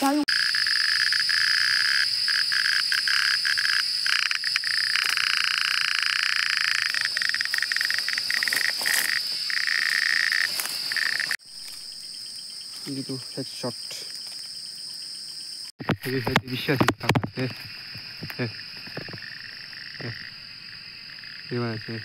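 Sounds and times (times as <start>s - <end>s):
cicadas droning: 0.0s - 22.0s
faint insect buzz: 0.0s - 22.0s.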